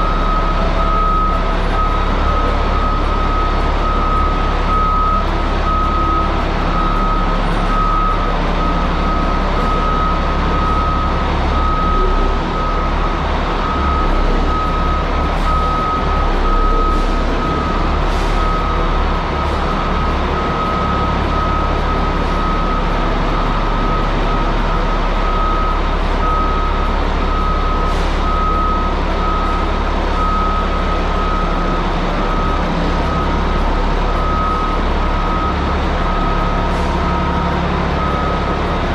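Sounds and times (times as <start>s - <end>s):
diesel engine running: 0.0s - 38.9s
reversing alarm beeping: 0.0s - 38.9s.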